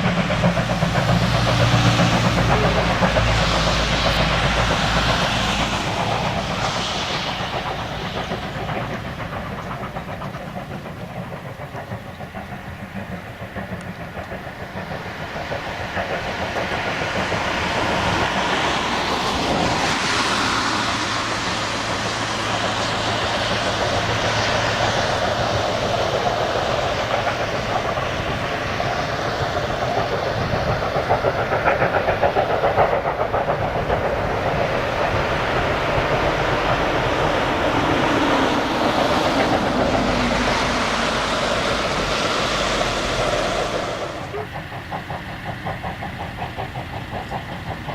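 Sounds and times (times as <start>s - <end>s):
steam locomotive running: 0.0s - 47.9s.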